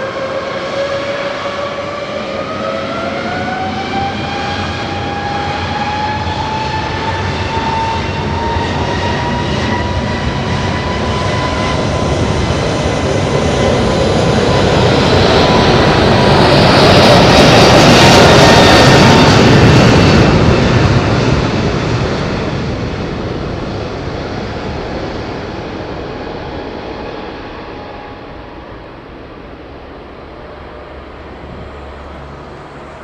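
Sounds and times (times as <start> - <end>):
jet engine rush: 0.0 - 33.0
jet engine whine: 0.0 - 33.0.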